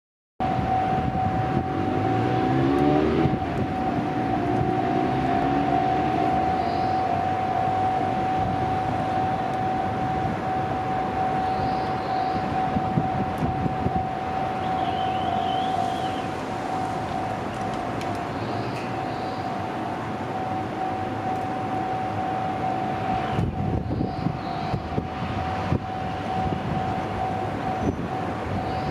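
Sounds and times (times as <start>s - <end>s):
level-crossing warning bell: 0.4s - 28.9s.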